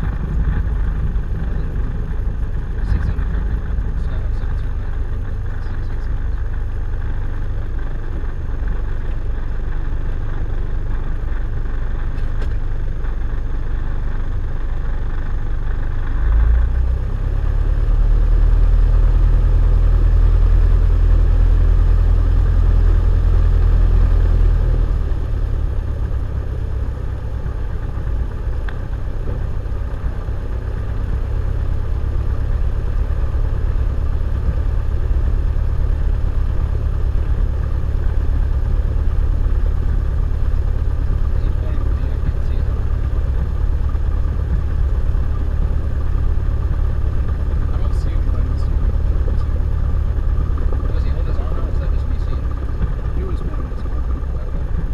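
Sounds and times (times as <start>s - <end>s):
piston engine and propeller: 0.0s - 54.9s.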